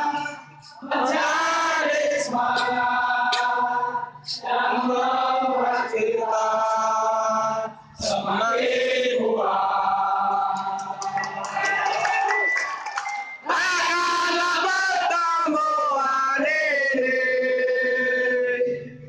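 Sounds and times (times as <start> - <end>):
choir singing an anthem: 0.0 - 12.6, 13.3 - 18.9.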